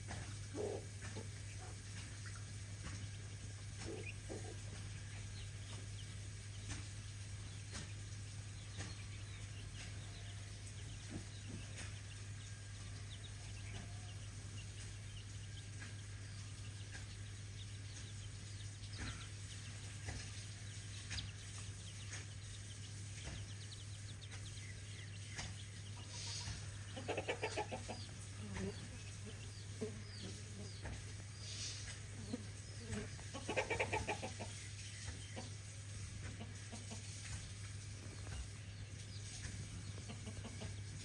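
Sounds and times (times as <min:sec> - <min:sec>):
chickens clucking: 0:00.0 - 0:41.0
steady low hum: 0:00.0 - 0:41.0.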